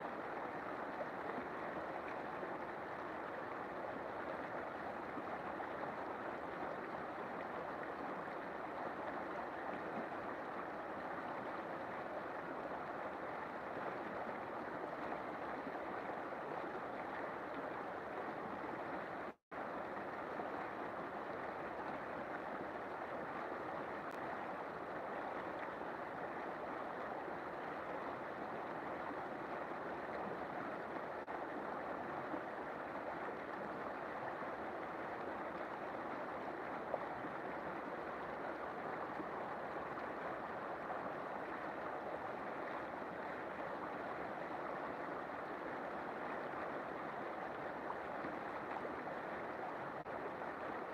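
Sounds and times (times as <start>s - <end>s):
river water flowing: 0.0s - 50.9s.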